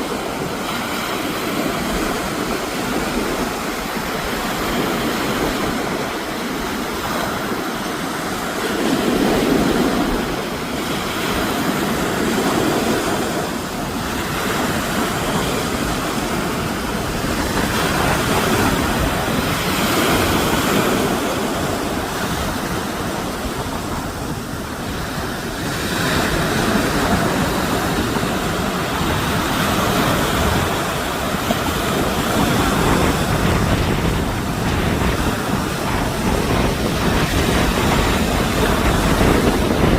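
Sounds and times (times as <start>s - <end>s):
strong wind roaring: 0.0s - 39.9s
wind buffeting microphone: 0.0s - 39.9s.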